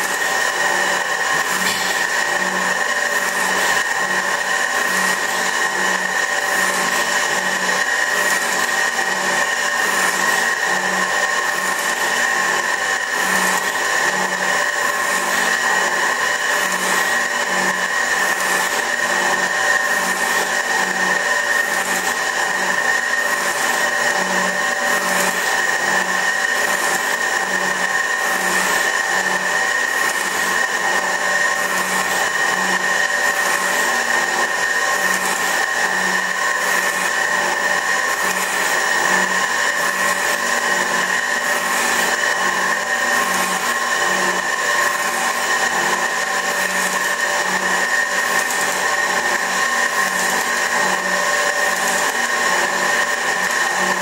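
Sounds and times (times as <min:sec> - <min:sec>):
metal shaper whining: 0:00.0 - 0:54.0.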